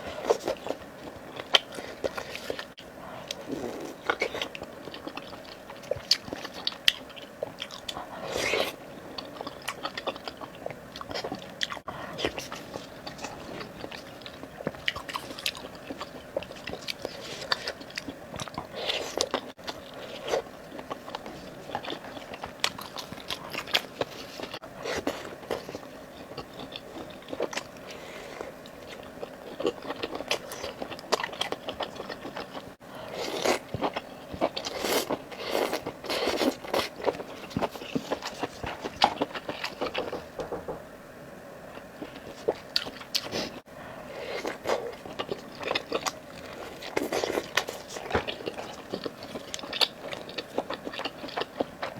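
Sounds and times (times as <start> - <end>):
person chewing crunchy food: 0.0 - 40.4, 41.7 - 51.9.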